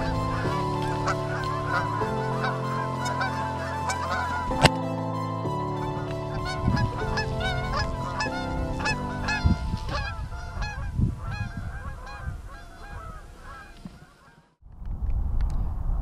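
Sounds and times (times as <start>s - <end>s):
steady low stepped tones: 0.0s - 13.1s
geese honking: 0.0s - 14.5s.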